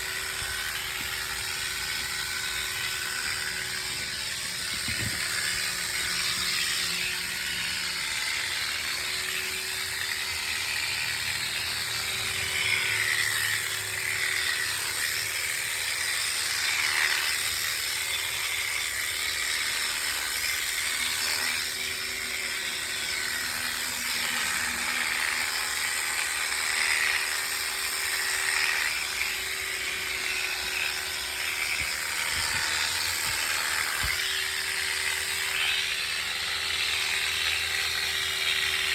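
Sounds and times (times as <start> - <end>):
electric clippers shearing sheep: 0.0 - 38.9.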